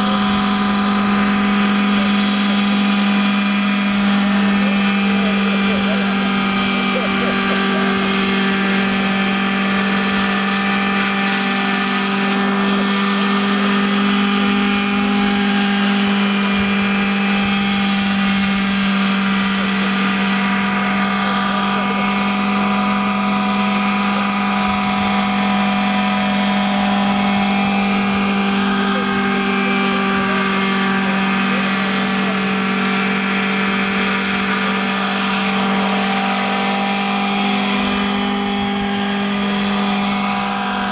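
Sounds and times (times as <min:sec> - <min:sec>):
model helicopter engine and rotors: 0:00.0 - 0:40.9.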